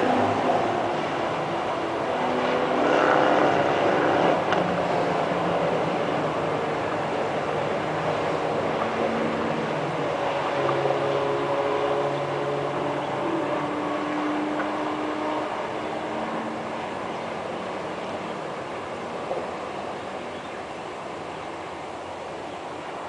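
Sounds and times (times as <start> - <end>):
car engines: 0.0 - 23.0
tyre and road noise: 0.0 - 23.0.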